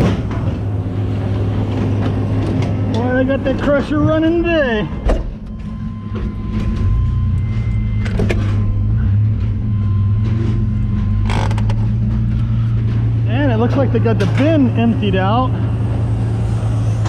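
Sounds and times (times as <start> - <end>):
faint steady whine: 0.0 - 17.0
heavy engine droning: 0.0 - 17.0.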